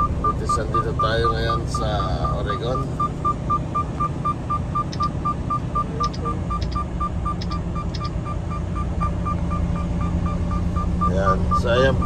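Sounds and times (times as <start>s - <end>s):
electronic beeping: 0.0s - 12.0s
truck engine and road noise: 0.0s - 12.0s.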